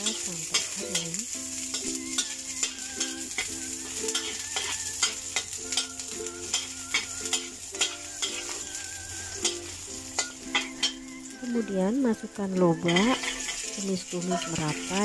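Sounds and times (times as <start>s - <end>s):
garlic sizzling in hot oil: 0.0s - 15.0s
metal spatula scraping wok: 0.0s - 15.0s.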